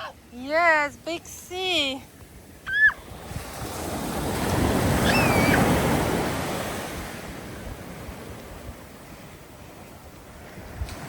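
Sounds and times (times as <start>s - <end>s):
waves breaking on shore: 0.0s - 11.0s.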